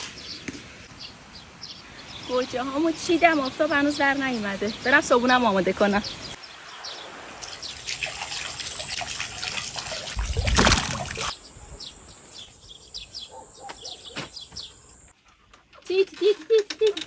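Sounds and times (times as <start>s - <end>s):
small birds chirping: 0.0s - 9.0s, 9.8s - 17.0s.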